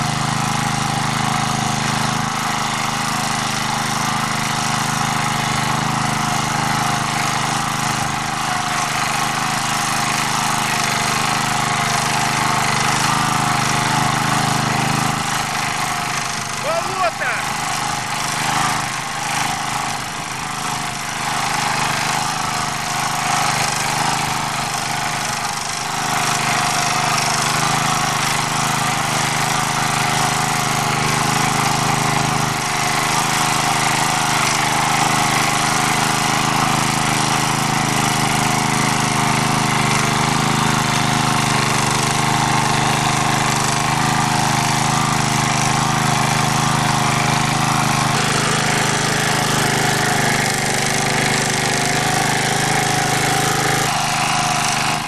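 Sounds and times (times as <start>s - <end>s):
rotary tiller working soil: 0.0s - 55.0s
tractor engine running: 0.0s - 55.0s.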